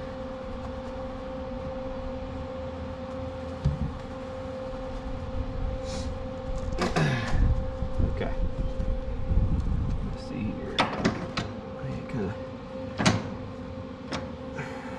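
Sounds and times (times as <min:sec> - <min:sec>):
welding machine hum: 0:00.0 - 0:14.9.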